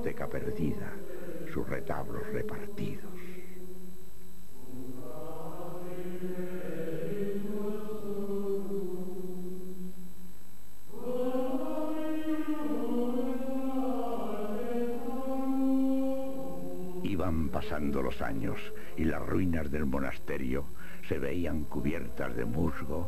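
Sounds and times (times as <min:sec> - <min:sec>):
choir chanting plainchant: 0:00.0 - 0:03.9, 0:04.6 - 0:10.1, 0:10.9 - 0:23.0.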